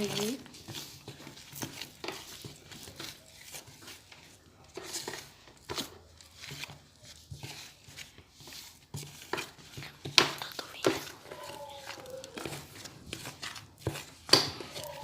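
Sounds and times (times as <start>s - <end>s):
spoon stirring slime in a bowl: 0.0s - 15.0s.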